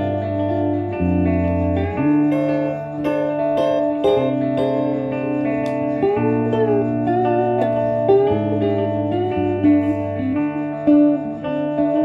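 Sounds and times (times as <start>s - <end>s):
electric guitar: 0.0s - 12.0s
guitars playing together: 0.0s - 12.0s.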